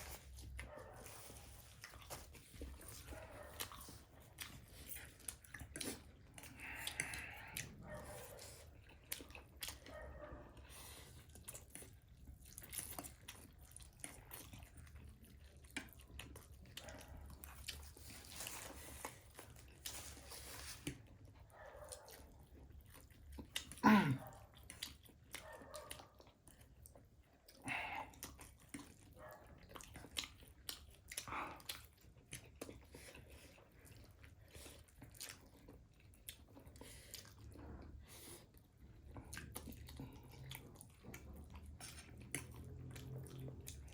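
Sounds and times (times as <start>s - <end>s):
people chewing noodles: 0.0s - 43.9s.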